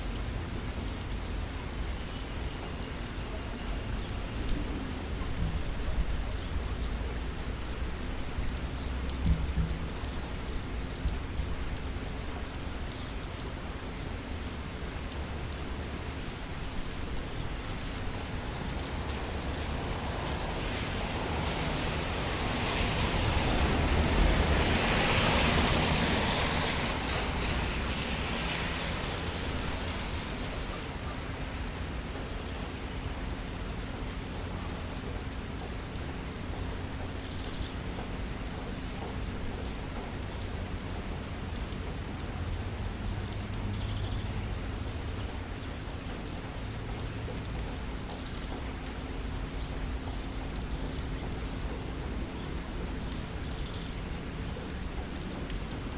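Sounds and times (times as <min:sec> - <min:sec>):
rain falling on street: 0:00.0 - 0:55.9.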